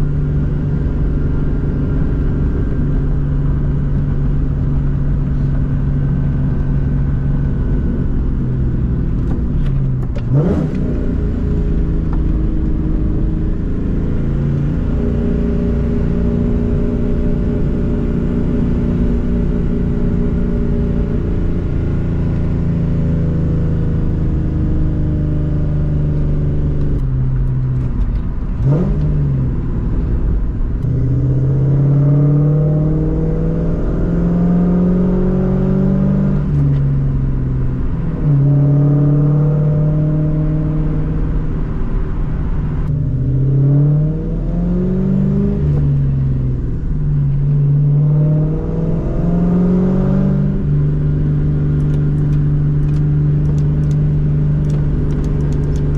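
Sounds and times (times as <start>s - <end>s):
car engine accelerating: 0.0s - 55.9s.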